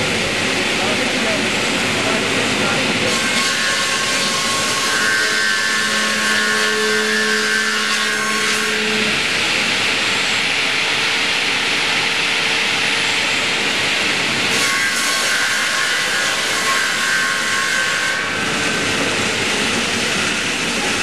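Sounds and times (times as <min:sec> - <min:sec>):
sawmill cutting timber: 0:00.0 - 0:21.0.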